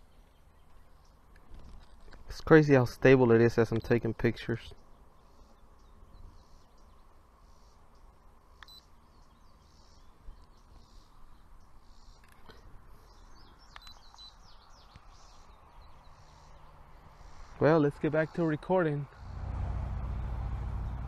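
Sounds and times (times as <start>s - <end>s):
small birds chirping: 0.0s - 19.5s
low background noise: 0.0s - 21.0s.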